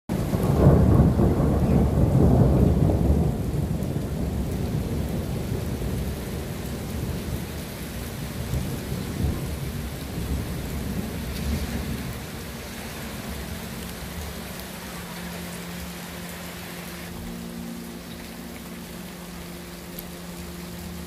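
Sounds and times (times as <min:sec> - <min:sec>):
thunder rolling: 0:00.1 - 0:18.0
rain falling: 0:00.1 - 0:21.0.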